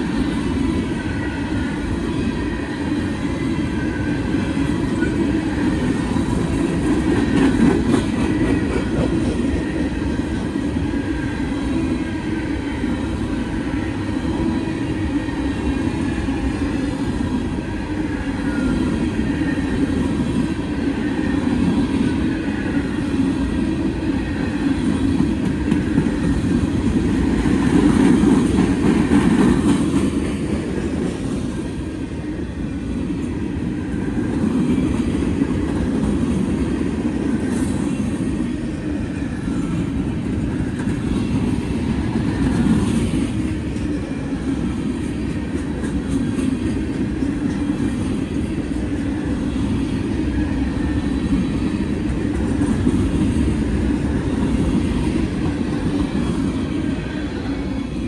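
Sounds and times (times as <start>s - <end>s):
train cars rumbling and rattling: 0.0s - 58.0s.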